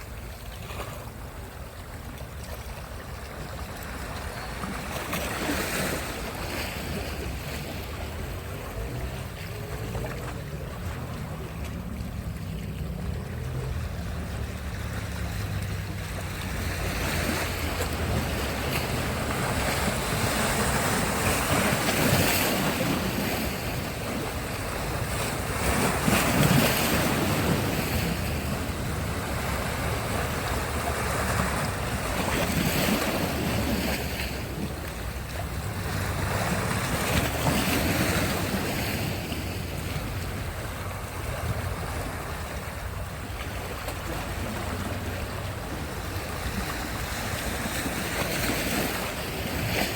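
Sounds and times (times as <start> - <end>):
wind rumble on microphone: 0.0 - 49.9
sea surf breaking: 2.4 - 49.9.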